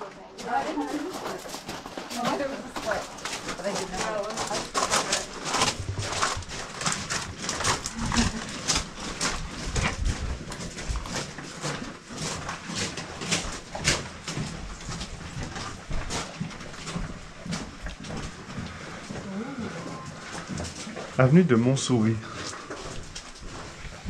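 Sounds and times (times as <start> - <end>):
footsteps crunching on stone floor: 0.0 - 24.0.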